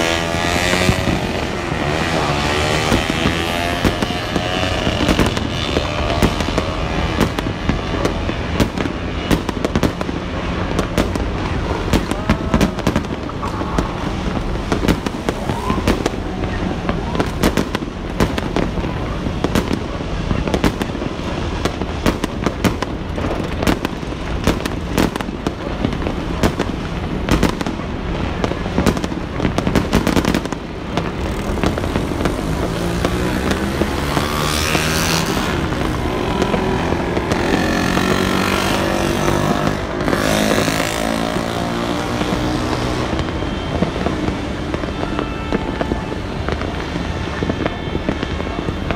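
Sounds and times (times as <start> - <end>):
fireworks bangs and crackles: 0.0 - 48.9
steady rushing noise: 0.0 - 48.9.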